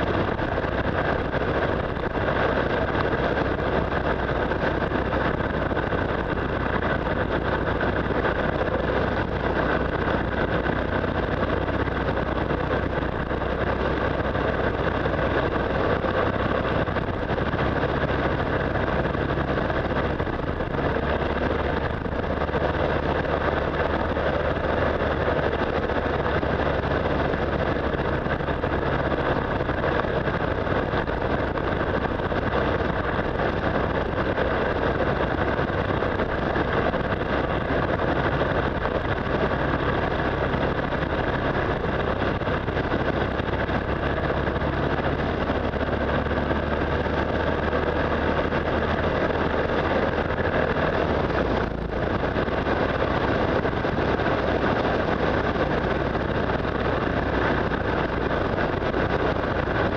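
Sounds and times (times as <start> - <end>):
motorcycle engine running: 0.0 - 59.9
road noise: 0.0 - 59.9
wind rush: 0.0 - 59.9.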